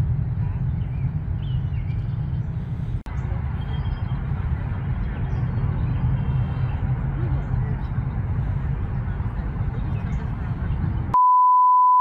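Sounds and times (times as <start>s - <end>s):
low outdoor rumble: 0.0s - 11.2s.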